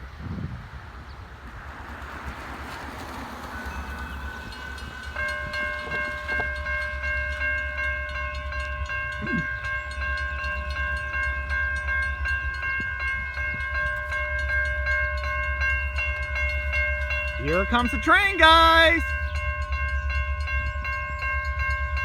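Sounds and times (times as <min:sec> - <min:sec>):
crossing warning bells ringing: 0:02.6 - 0:22.0.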